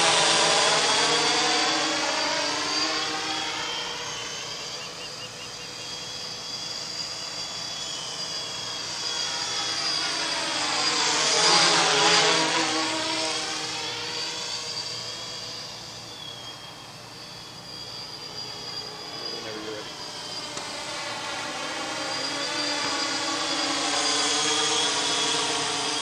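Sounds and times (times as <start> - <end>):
drone propellers buzzing: 0.0 - 26.0.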